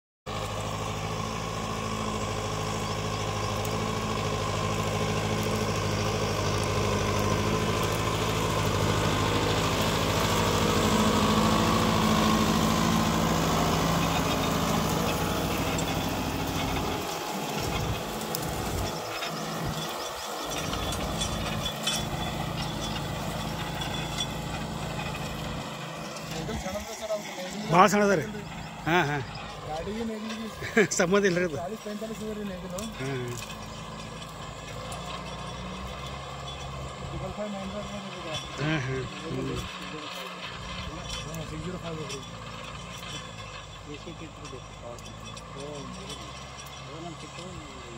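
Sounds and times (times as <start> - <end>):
tractor diesel engine under load: 0.2 - 47.9.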